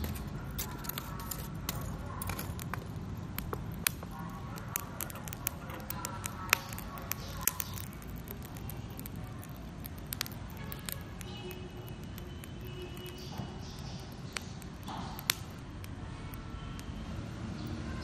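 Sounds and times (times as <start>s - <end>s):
burning charcoal crackling and popping: 0.0s - 18.0s.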